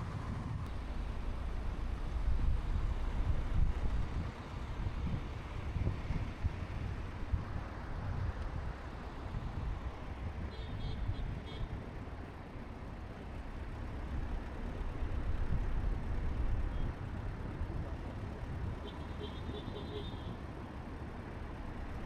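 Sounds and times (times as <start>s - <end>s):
motor vehicle engine rumble: 0.0s - 22.0s.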